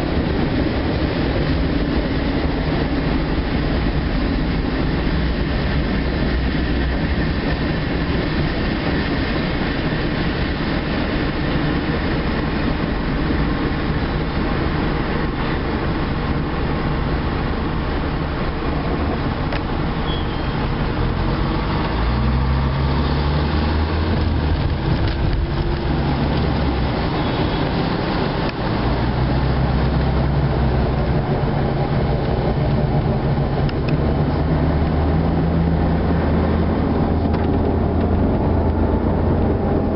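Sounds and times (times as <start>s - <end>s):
car engine drone: 0.0s - 39.9s
freight train cars rumbling past: 0.0s - 39.9s
road noise: 0.0s - 39.9s.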